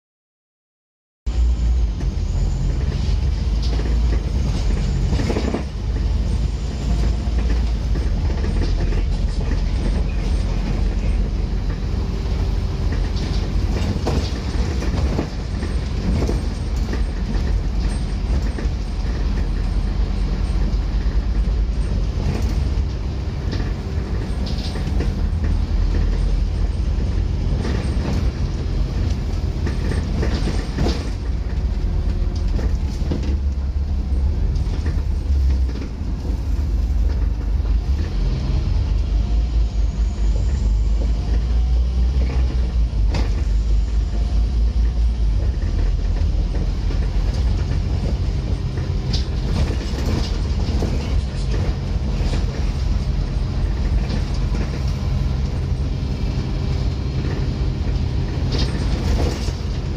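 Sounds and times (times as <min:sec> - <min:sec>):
bus engine and road rumble: 0:01.3 - 0:59.9
bus body rattling and knocking: 0:01.6 - 0:59.9.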